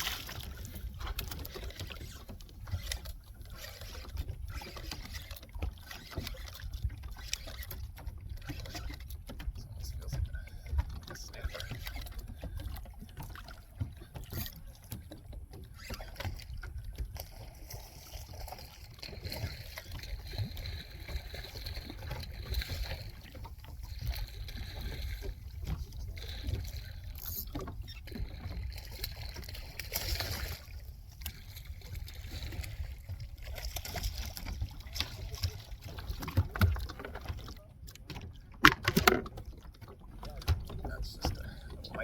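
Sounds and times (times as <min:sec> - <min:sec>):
water lapping and sloshing: 0:00.0 - 0:42.0.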